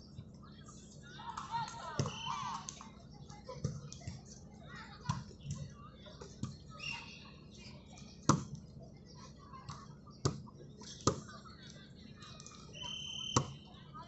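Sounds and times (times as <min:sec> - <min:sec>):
background voices and chatter: 0:00.0 - 0:14.0.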